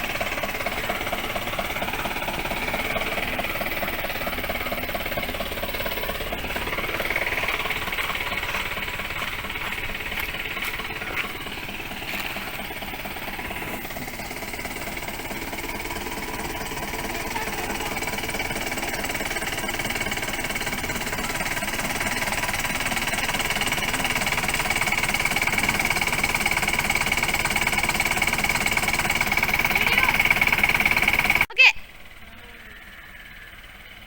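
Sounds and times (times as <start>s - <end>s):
small motor rattling: 0.0s - 34.0s.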